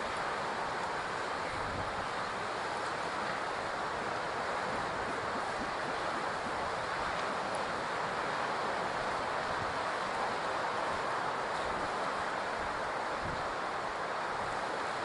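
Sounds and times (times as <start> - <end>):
ocean surf: 0.0 - 15.0
wind: 0.0 - 15.0.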